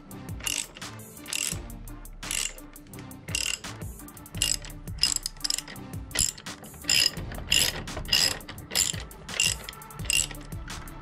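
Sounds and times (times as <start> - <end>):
socket ratchet clicking: 0.0 - 10.9.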